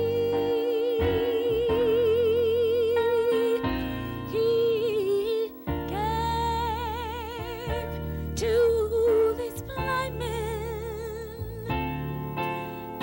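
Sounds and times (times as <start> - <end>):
person singing with vibrato: 0.0 - 11.9.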